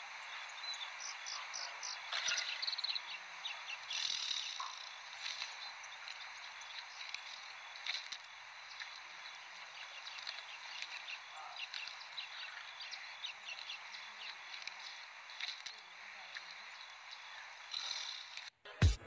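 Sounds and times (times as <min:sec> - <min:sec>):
steady hiss: 0:00.0 - 0:18.5.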